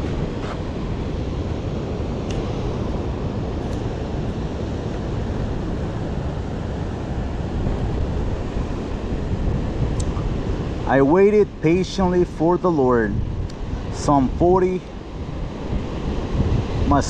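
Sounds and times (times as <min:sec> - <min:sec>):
ocean surf rushing: 0:00.0 - 0:17.0
wind buffeting microphone: 0:00.0 - 0:17.0.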